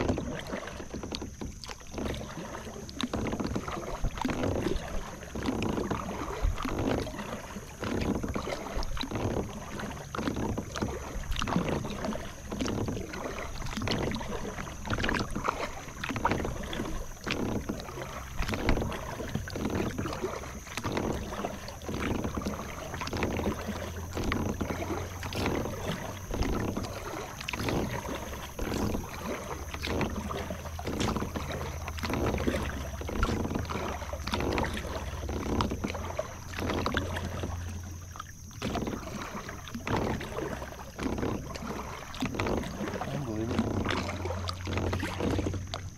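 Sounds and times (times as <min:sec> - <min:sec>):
paddle strokes in water: 0:00.0 - 0:45.9
water splashes and drips: 0:00.0 - 0:45.9.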